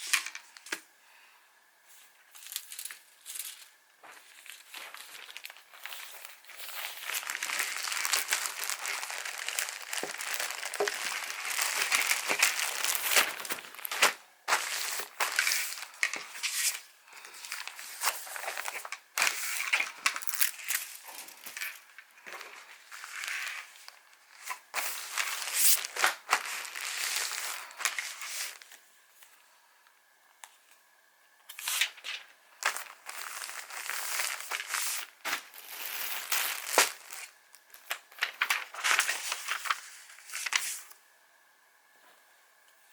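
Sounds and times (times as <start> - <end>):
packaging crinkling and rustling: 2.0 - 28.8, 31.5 - 41.0.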